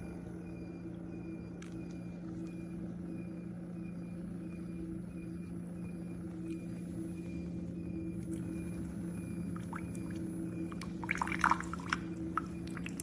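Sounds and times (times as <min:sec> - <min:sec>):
coffee maker pump humming: 0:00.0 - 0:13.0.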